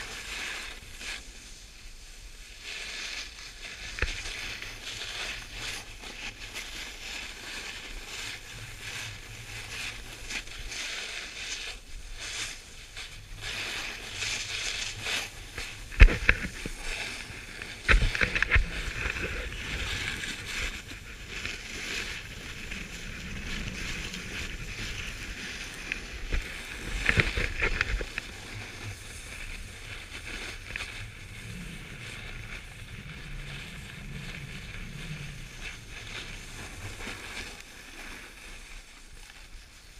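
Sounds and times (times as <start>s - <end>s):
snowboard scraping over snow: 0.0s - 39.9s
wind on microphone: 0.0s - 39.9s.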